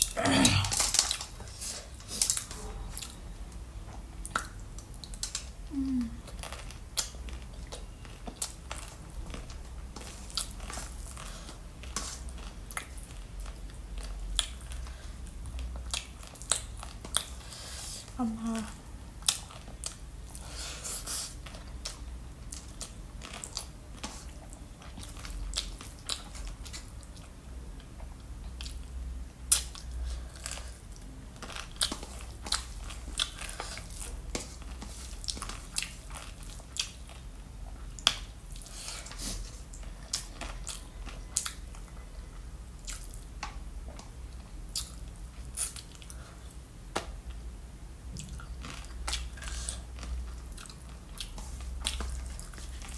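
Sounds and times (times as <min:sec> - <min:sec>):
person chewing crunchy food: 0:00.0 - 0:03.2, 0:03.9 - 0:18.1, 0:19.2 - 0:47.4, 0:48.0 - 0:52.9.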